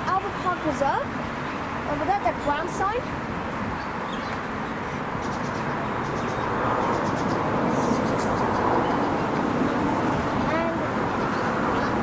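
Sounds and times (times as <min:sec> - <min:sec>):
rush of passing vehicles: 0:00.0 - 0:12.0.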